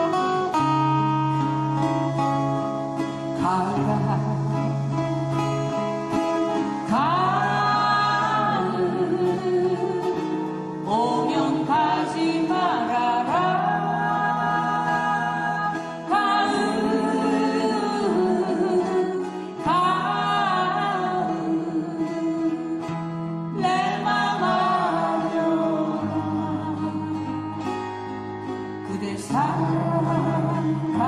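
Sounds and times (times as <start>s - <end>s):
acoustic guitars strumming: 0.0s - 31.0s
person singing: 3.0s - 31.0s.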